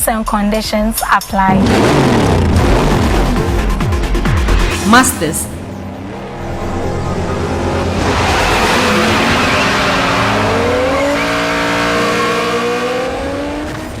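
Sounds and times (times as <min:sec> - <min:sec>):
car engine revving: 0:01.4 - 0:04.8, 0:05.6 - 0:14.0.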